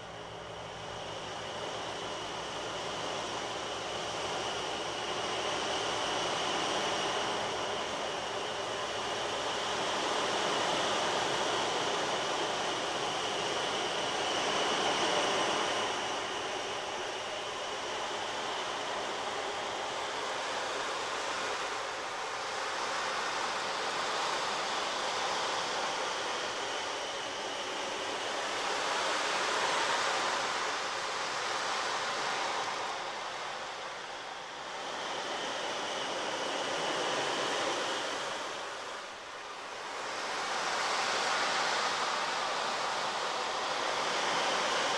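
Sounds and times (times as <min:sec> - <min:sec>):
rushing surf-like noise: 0:00.0 - 0:44.9.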